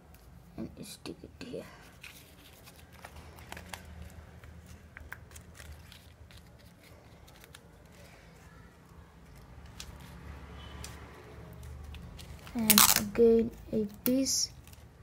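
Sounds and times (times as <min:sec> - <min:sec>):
paper and tape being handled: 0:01.8 - 0:15.0.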